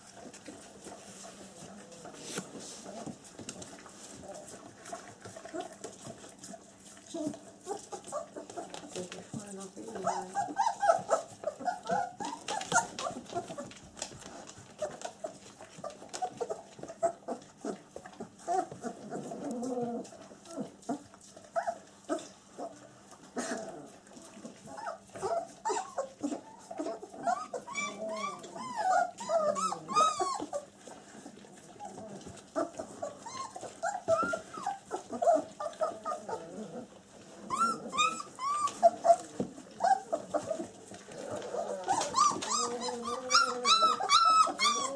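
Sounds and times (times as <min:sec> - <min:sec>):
feeding clicks and smacks: 0:00.0 - 0:44.9
puppies squeaking and whimpering: 0:00.0 - 0:44.9.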